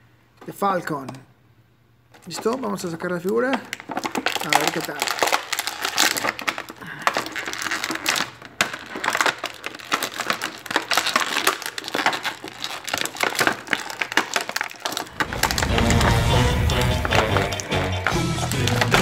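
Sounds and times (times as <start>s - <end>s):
plastic bag crinkling: 2.1s - 19.0s.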